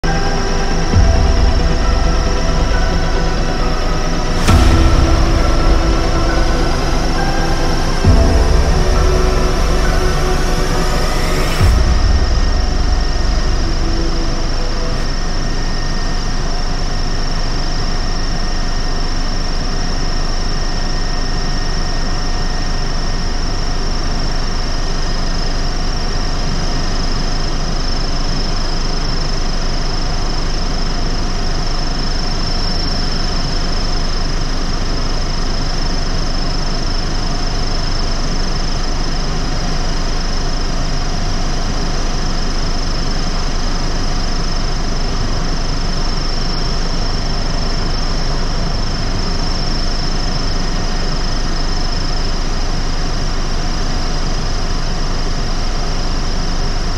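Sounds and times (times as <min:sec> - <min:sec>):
high turbine whine: 0:00.0 - 0:56.9.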